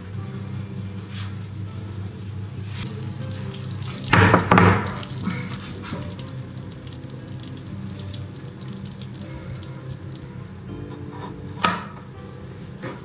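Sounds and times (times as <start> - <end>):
tap water running: 0.0 - 10.6
soft background music: 0.0 - 13.0.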